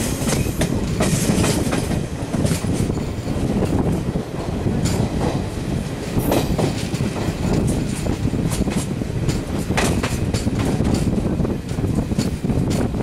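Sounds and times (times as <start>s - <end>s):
train rail rumble: 0.0s - 13.0s.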